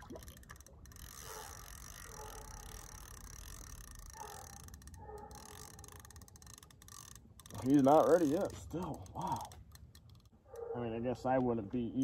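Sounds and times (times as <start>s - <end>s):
fishing reel clicking and whirring: 0.0s - 10.7s.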